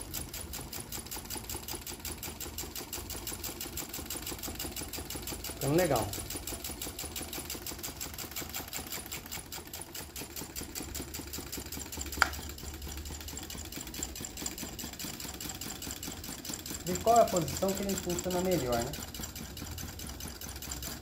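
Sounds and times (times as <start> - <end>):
small engine clattering: 0.0 - 21.0.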